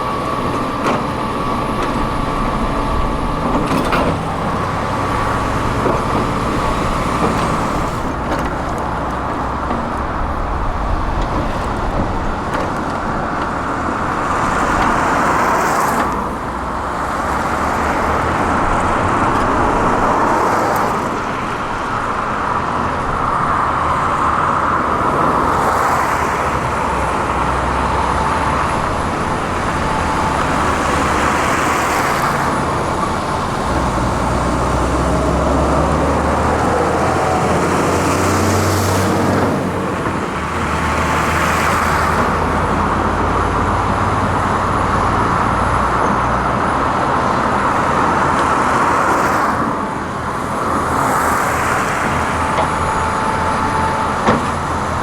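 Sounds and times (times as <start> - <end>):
diesel excavator engines: 0.0 - 55.0.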